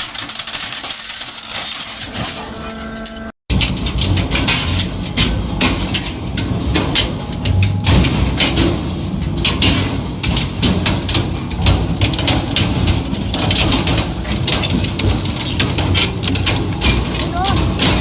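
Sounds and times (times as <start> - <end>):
industrial crushing machine rumble: 3.0 - 18.0
sharp cracks and knocks: 3.5 - 18.0.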